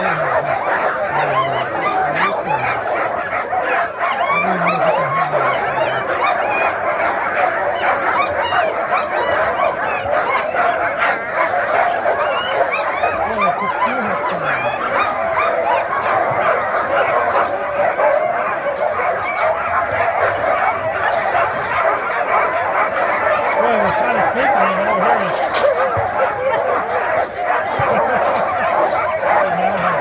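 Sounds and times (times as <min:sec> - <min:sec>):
dogs barking and yipping: 0:00.0 - 0:30.0.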